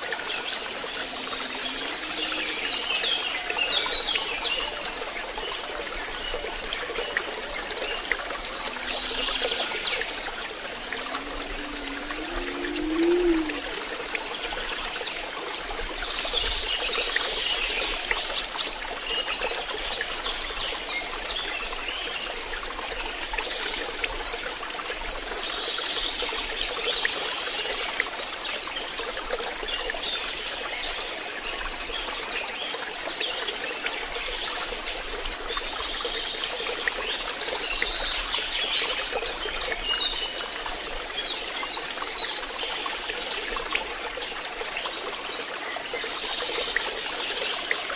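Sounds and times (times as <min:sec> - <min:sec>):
water trickling into pond: 0:00.0 - 0:47.9.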